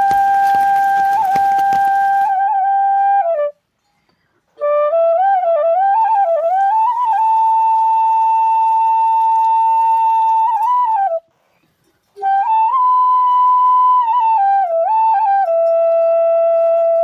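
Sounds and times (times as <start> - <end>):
solo flute music: 0.0 - 3.8, 4.5 - 11.4, 12.1 - 17.0
soft hiss: 0.0 - 14.8.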